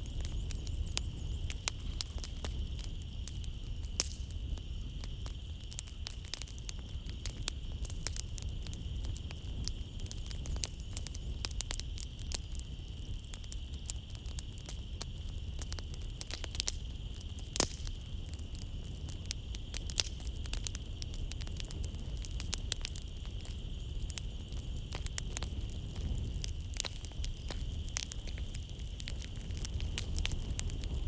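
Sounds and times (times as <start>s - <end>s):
night insects chirring: 0.0s - 31.0s
wood fire crackling: 0.0s - 31.0s.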